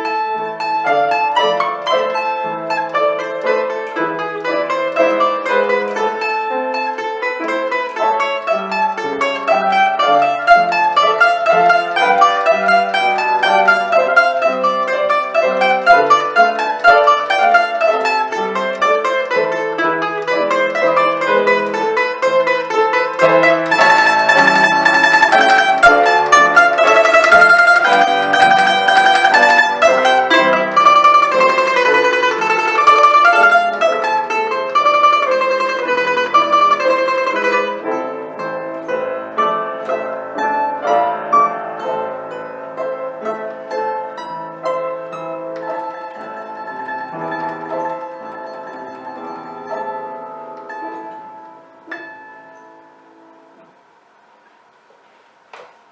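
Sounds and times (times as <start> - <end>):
plucked string instrument folk tune: 0.0 - 55.9.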